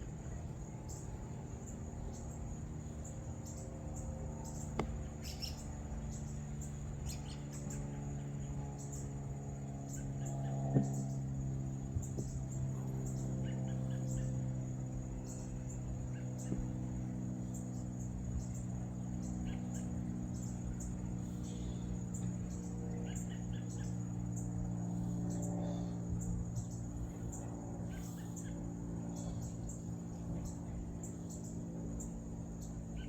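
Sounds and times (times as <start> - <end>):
insects chirping: 0.0 - 33.0
low machine hum: 0.0 - 33.0.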